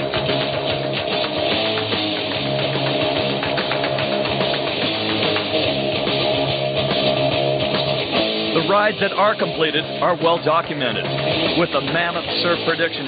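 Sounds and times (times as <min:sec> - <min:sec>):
electric guitar music: 0:00.0 - 0:13.0.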